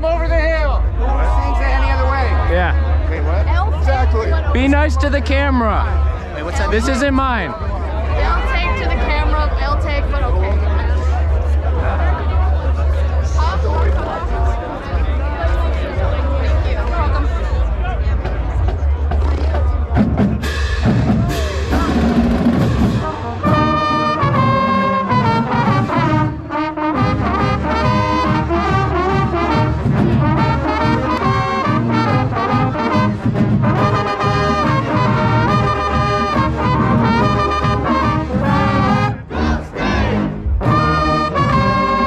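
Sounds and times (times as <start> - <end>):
marching band brass playing: 0.0 - 17.3, 18.2 - 42.0.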